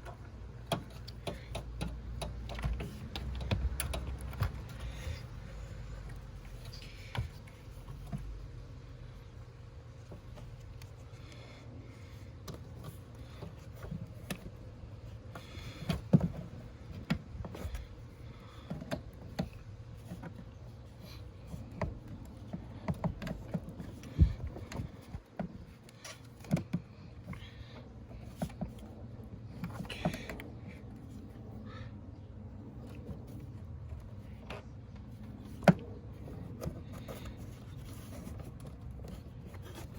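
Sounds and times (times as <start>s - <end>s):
hand tools and car parts clunking: 0.0s - 8.4s, 12.1s - 31.4s, 32.7s - 39.9s
steady low hum: 0.0s - 39.9s.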